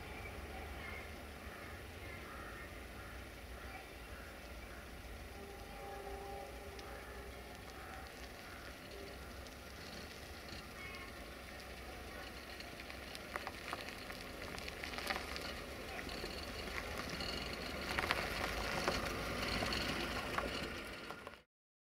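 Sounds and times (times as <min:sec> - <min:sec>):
faint squeals: 0:00.0 - 0:20.6
distant train rumble: 0:00.0 - 0:21.4
train clanks: 0:00.0 - 0:21.4.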